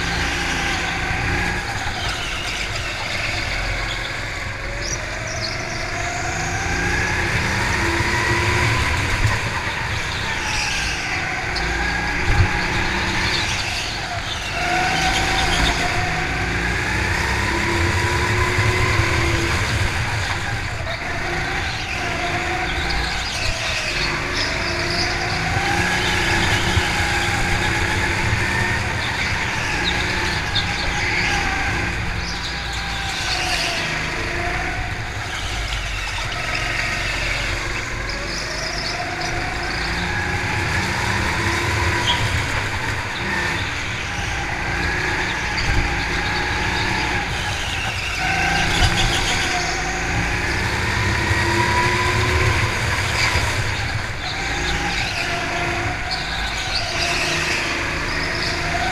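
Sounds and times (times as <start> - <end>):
go-kart motor rising and falling: 0.0 - 58.9.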